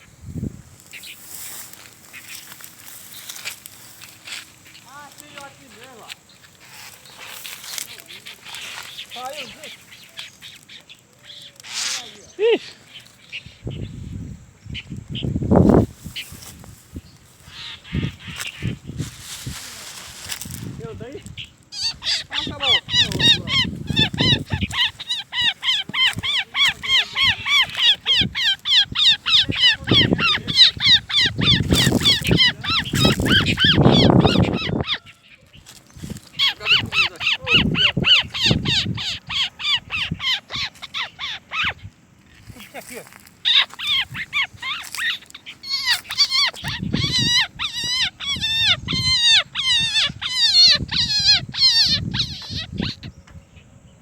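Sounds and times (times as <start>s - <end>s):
bird harsh alarm calls: 0.9s - 15.3s, 16.0s - 53.6s.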